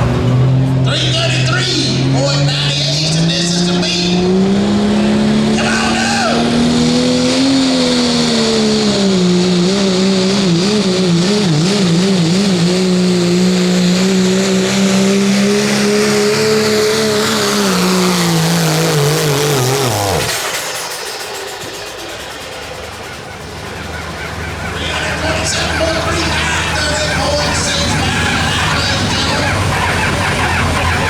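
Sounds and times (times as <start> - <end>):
diesel truck engine at full throttle: 0.0 - 31.0.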